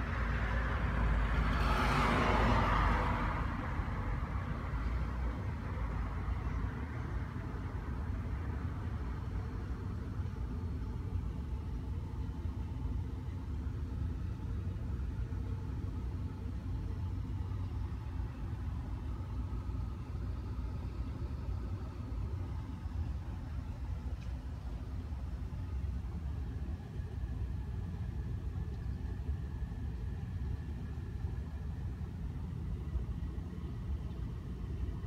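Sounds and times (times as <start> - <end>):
vehicle traffic: 0.0 - 35.0.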